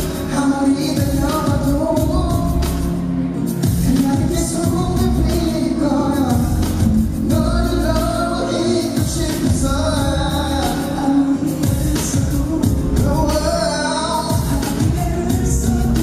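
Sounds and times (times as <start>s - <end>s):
loud pop backing track: 0.0s - 16.0s
man singing into microphone: 0.0s - 16.0s.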